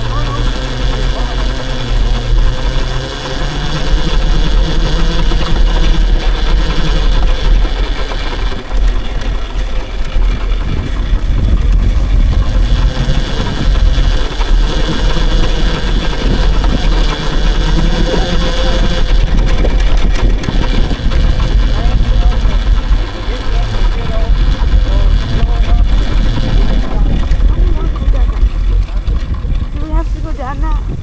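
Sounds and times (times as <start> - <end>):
dirt bike motor and tyres: 0.0 - 31.0
wind buffeting microphone: 0.0 - 31.0.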